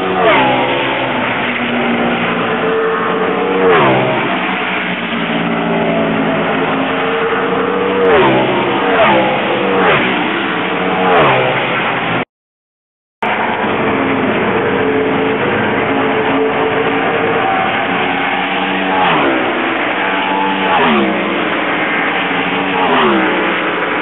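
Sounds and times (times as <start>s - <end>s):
race cars passing by: 0.0s - 12.2s, 13.2s - 24.0s.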